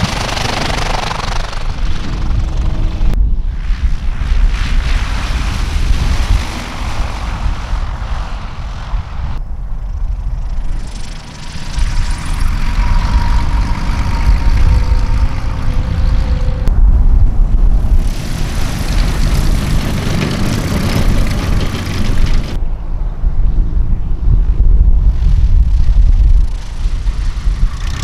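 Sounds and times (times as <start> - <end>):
light plane engine and propeller: 0.0 - 28.0
wind rumble on microphone: 0.0 - 28.0.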